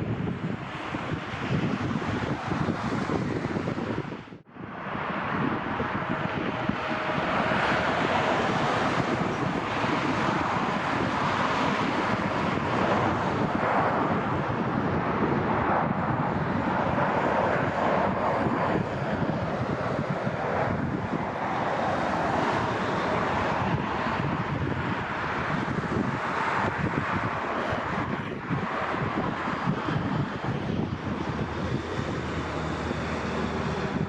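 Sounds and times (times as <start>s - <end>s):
jet engine noise: 0.0s - 34.0s
wind buffeting microphone: 0.0s - 34.0s.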